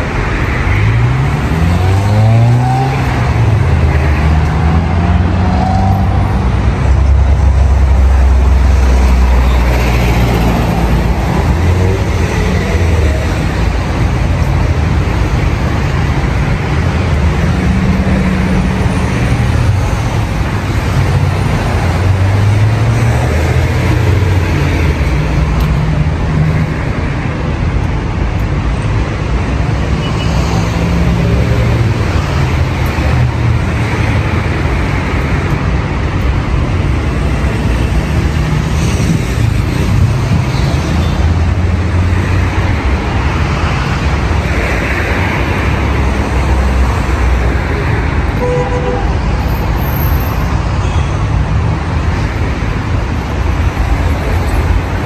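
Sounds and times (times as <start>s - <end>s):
road traffic rumbling: 0.0s - 55.0s.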